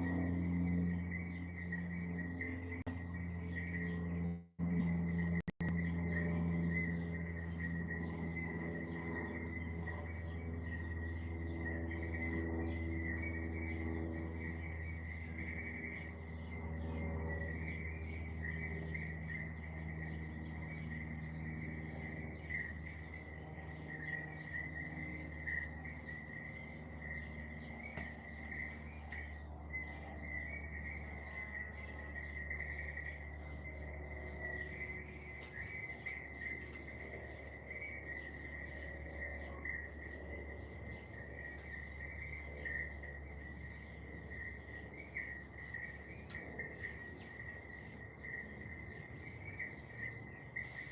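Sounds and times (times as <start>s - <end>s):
bird chirps: 0.0s - 50.9s
low steady hum: 0.0s - 50.9s.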